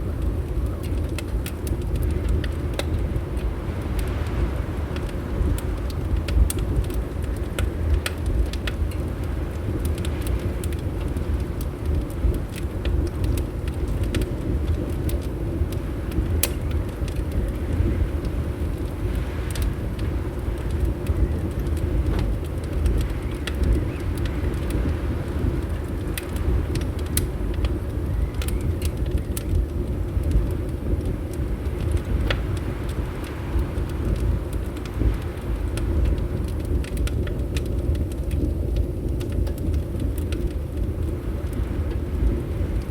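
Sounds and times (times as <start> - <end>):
low wind rumble: 0.0 - 42.9
wood fire crackling and popping: 0.0 - 42.9.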